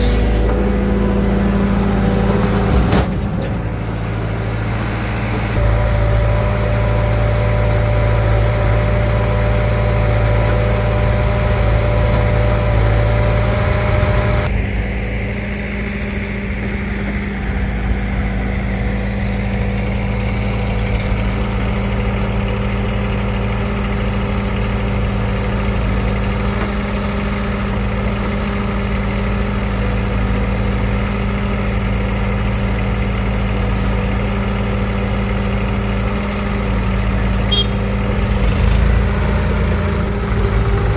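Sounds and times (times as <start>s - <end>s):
diesel tractor engine idling: 0.0s - 40.9s.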